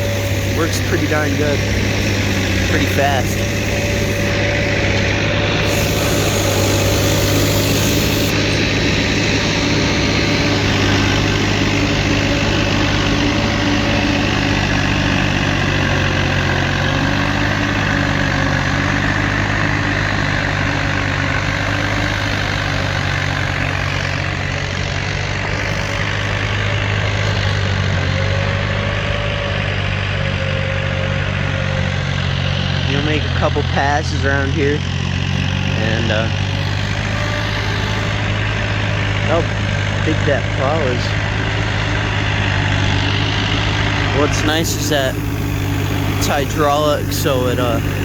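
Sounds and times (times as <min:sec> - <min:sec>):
snowblower whine: 0:00.0 - 0:48.0
tractor engine under load: 0:00.0 - 0:48.0.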